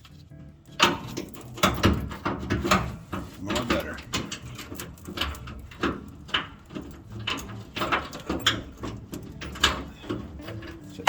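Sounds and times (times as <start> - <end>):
hand tools clicking on metal: 0.0 - 11.0.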